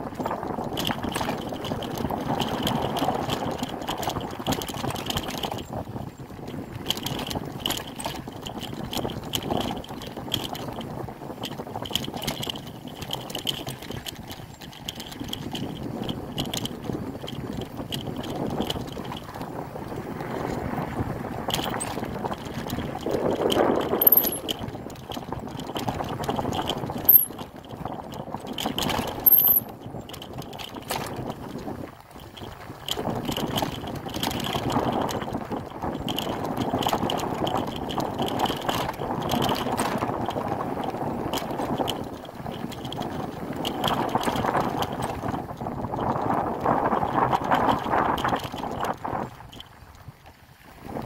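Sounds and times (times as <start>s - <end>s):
bicycle frame rattling: 0.0s - 50.4s
bicycle tyre rumble: 0.0s - 51.0s.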